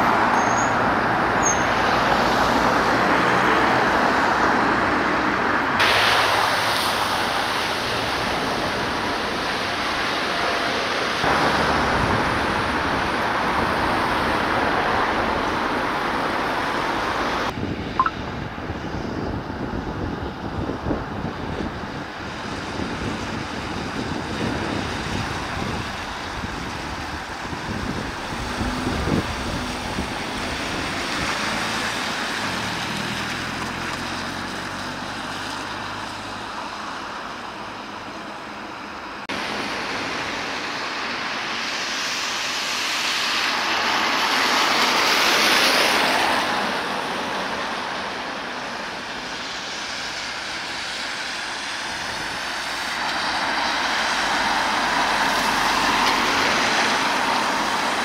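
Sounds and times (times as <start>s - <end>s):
road traffic going by: 0.0s - 58.0s.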